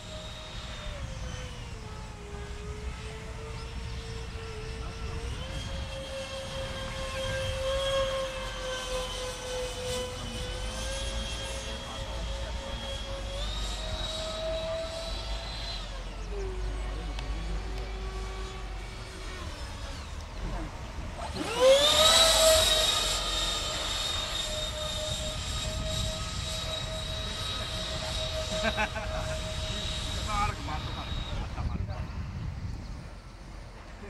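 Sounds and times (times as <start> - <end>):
model jet fans whining: 0.0 - 34.0.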